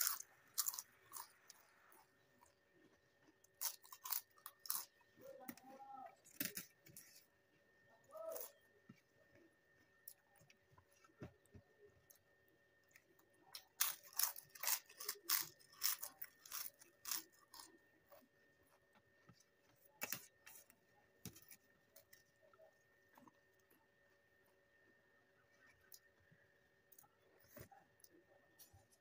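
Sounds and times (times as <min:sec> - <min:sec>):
crisp food crunching: 0:00.0 - 0:24.6.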